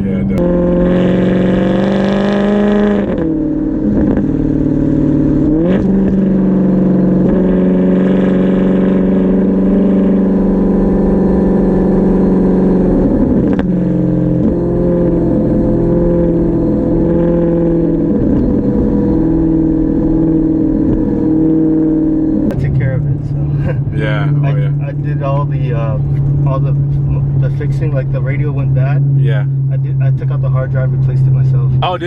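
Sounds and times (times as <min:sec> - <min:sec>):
car exhaust while driving: 0:00.0 - 0:32.0.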